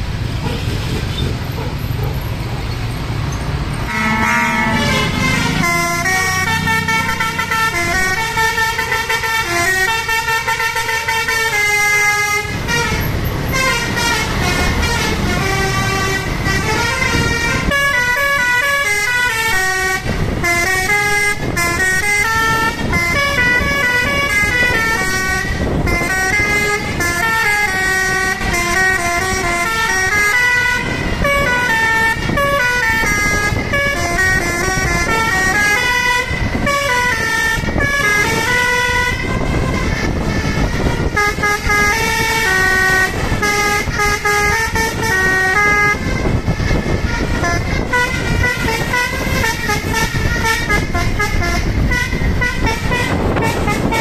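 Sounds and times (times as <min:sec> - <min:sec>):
musical air horn melody: 0:03.8 - 0:54.0.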